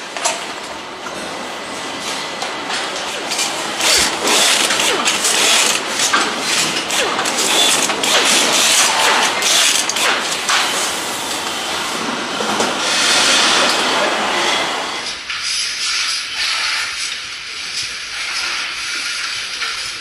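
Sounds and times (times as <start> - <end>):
steady machinery hiss: 0.0 - 20.0.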